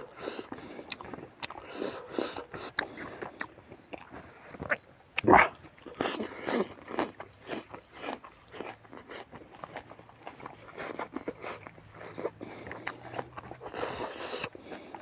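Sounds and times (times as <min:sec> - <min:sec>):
man chewing and lip-smacking: 0:00.0 - 0:15.0.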